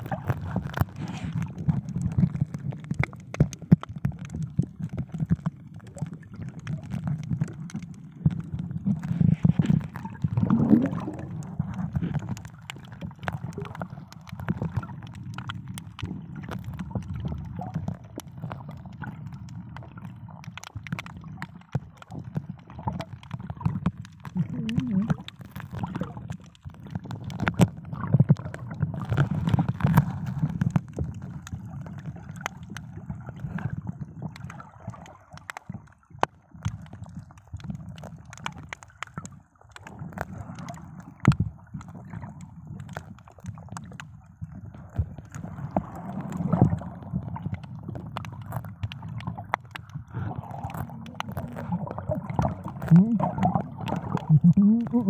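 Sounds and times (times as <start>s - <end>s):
underwater sloshing and gurgling: 0.0s - 55.0s.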